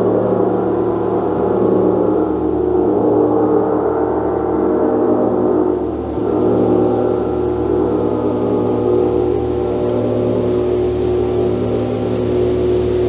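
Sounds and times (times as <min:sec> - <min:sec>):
gong shimmering: 0:00.0 - 0:13.0.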